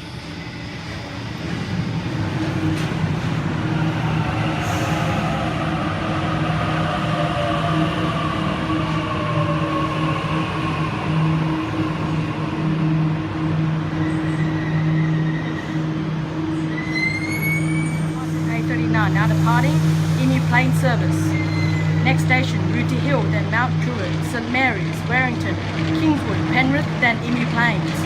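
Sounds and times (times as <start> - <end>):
electric train humming: 0.0 - 28.0.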